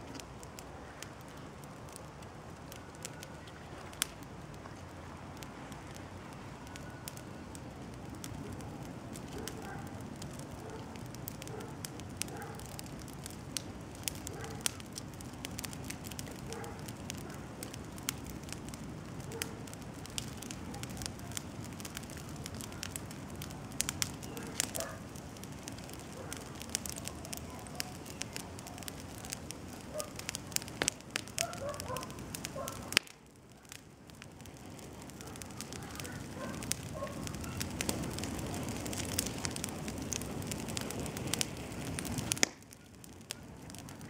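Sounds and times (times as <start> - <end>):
fire crackling and popping: 0.0 - 44.0
rush of bonfire flame: 0.0 - 44.0.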